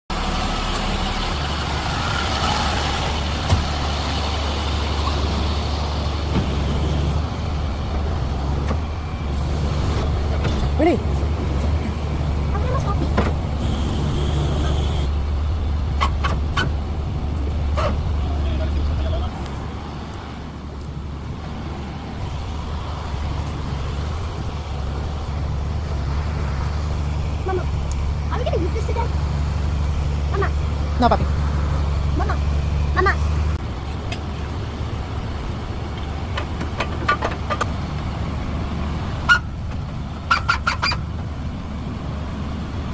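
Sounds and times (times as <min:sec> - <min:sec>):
truck engine humming: 0:00.1 - 0:42.9.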